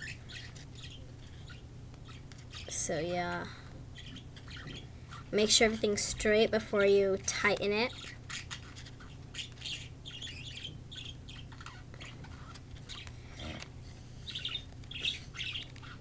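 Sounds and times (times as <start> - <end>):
pet birds chirping: 0.0 - 16.0.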